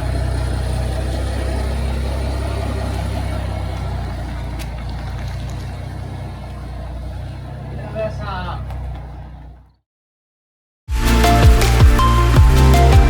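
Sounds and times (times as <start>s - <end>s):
vehicle engine humming: 0.0s - 9.8s, 11.0s - 13.0s.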